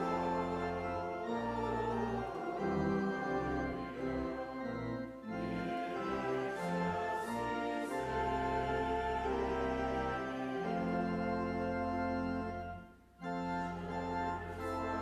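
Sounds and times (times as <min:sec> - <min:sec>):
church organ playing hymn: 0:00.0 - 0:15.0.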